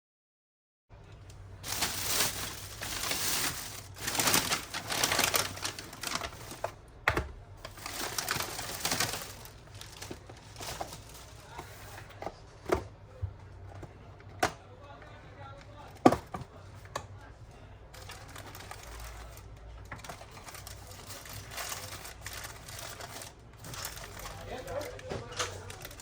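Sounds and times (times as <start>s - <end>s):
rustling and clattering handling: 1.1s - 14.6s, 17.9s - 26.0s.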